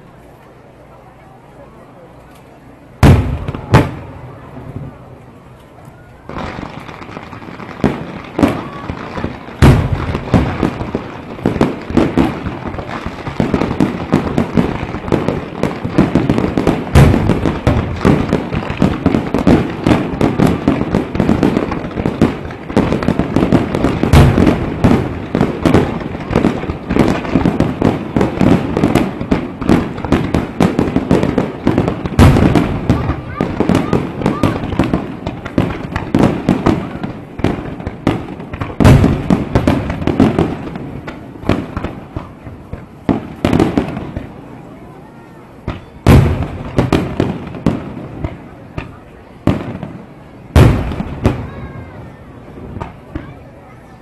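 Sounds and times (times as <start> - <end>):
fireworks bangs and crackling: 0.0 - 54.0
heavy firework booms: 3.0 - 5.1, 6.2 - 44.6, 45.6 - 53.4.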